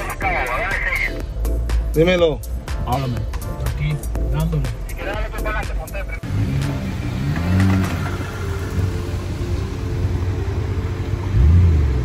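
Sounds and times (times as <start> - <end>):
car engine rumbling and revving: 0.0 - 12.0.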